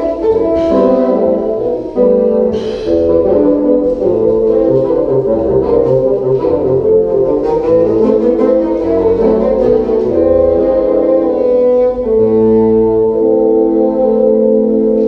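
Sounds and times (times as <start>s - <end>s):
bassoon quartet playing a waltz: 0.0s - 15.0s.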